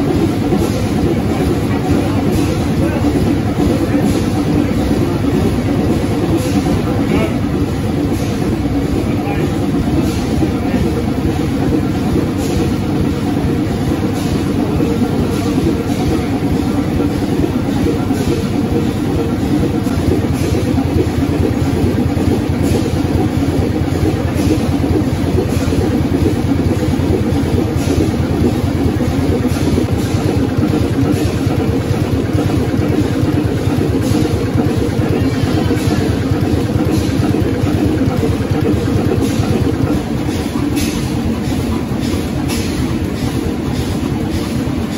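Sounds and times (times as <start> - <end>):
large engine running: 0.0 - 44.9.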